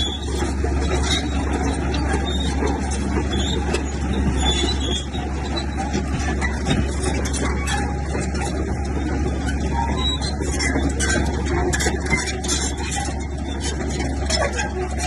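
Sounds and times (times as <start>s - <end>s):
diesel engine running under load: 0.0s - 15.0s
machinery rattling and clatter: 0.0s - 15.0s.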